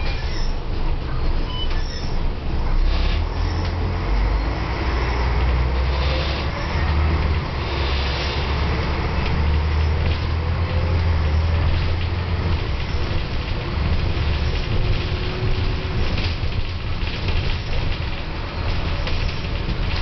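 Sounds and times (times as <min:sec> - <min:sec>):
bus engine droning: 0:00.0 - 0:20.0
road noise: 0:00.0 - 0:20.0.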